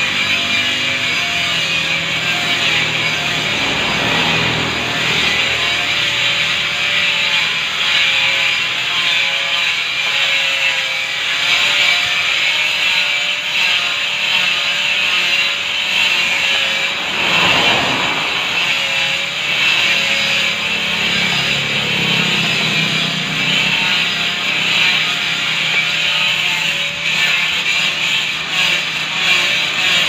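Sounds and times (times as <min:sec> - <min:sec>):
vehicle passing: 0:00.0 - 0:10.0, 0:13.4 - 0:28.3
power grinder on stone: 0:00.0 - 0:30.0.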